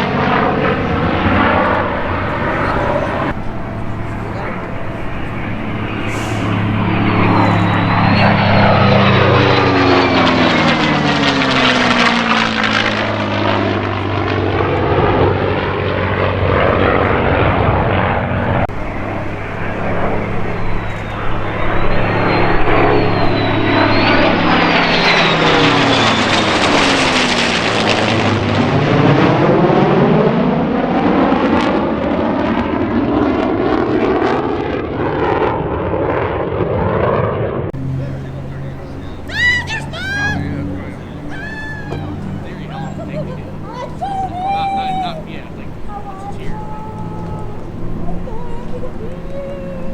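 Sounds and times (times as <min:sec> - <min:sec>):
fighter jet roaring past: 0:00.0 - 0:49.9.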